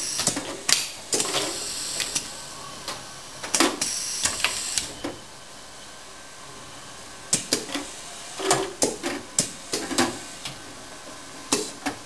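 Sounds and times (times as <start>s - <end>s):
conveyor machine humming: 0.0s - 12.0s.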